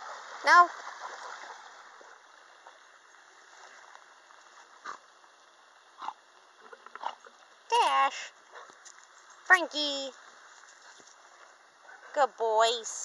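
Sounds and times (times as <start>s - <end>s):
faint outdoor hiss: 0.0s - 13.0s
pond water sounds: 0.0s - 13.0s.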